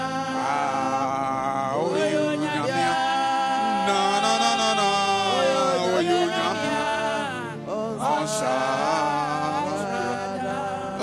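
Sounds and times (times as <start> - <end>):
man singing through microphone: 0.0 - 11.0.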